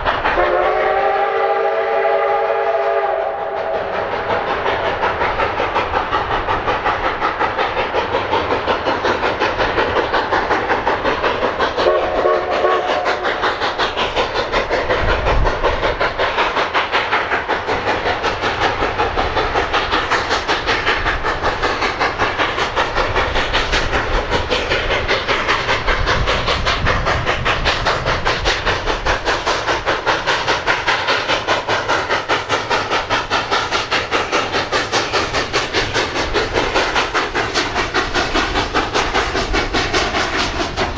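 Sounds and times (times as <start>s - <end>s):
steam locomotive running: 0.0s - 40.9s.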